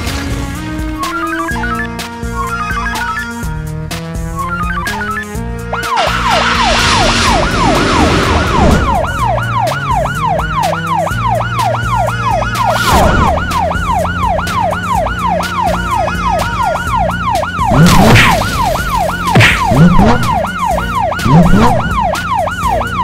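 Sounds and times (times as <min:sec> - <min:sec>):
police siren yelping: 0:00.8 - 0:03.6, 0:04.2 - 0:23.0.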